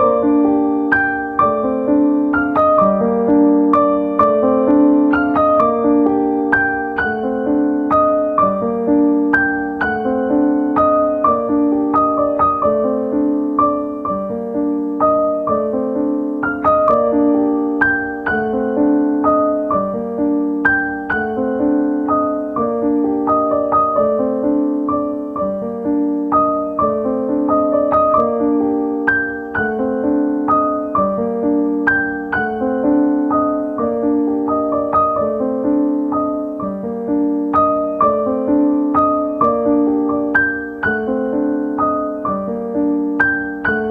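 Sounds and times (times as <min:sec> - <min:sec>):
gentle solo piano: 0:00.0 - 0:43.9.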